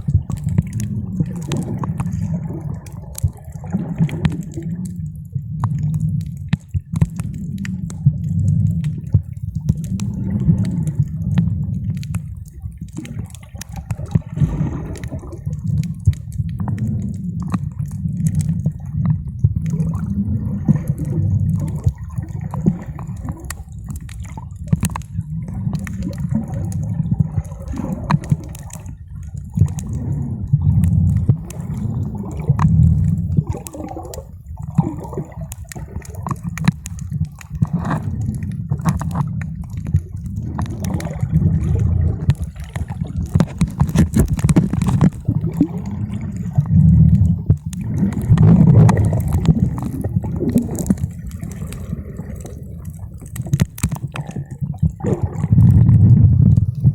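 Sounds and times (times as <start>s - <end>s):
small underwater clicks: 0.0s - 56.9s
underwater low rumble: 0.0s - 56.9s
water movement swells: 0.0s - 56.9s.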